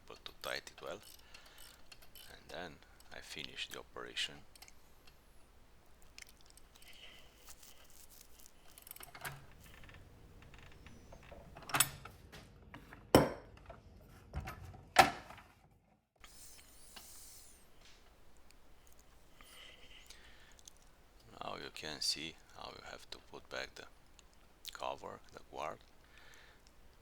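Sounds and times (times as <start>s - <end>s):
quiet clicks: 0.0s - 11.9s, 16.2s - 27.0s.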